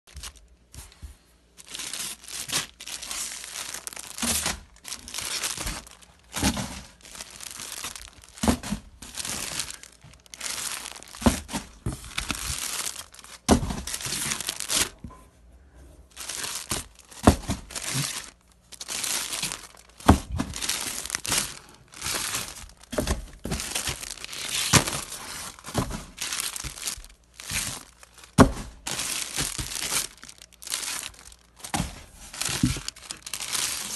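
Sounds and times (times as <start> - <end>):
plastic bags crinkling: 0.1 - 15.0, 16.1 - 33.9.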